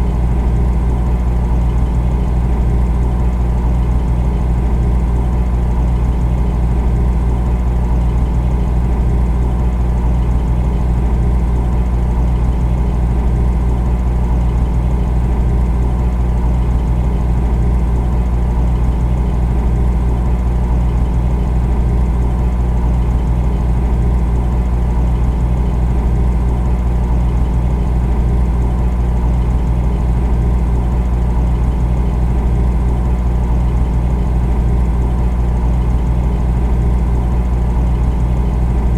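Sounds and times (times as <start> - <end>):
refrigerator humming: 0.0 - 38.9.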